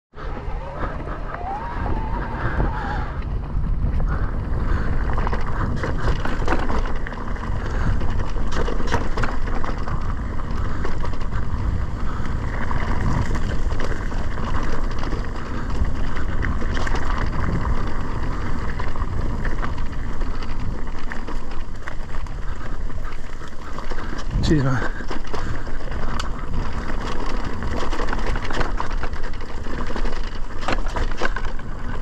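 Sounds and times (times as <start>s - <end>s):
wind buffeting microphone: 0.1s - 32.0s
bike tyres and frame rattling: 0.2s - 32.0s.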